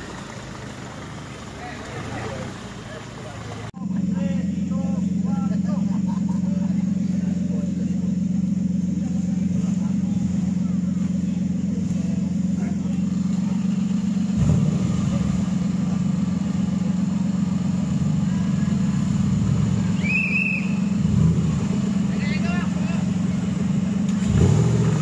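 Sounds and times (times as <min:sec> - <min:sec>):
off-road engine running: 0:00.0 - 0:25.0.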